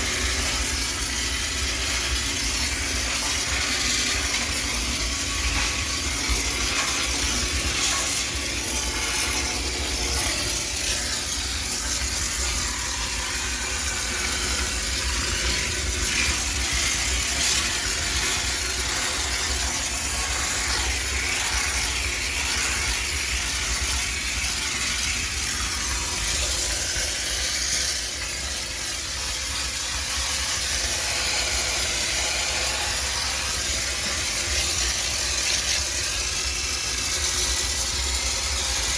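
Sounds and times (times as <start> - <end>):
steam cleaner hissing: 0.0 - 38.9.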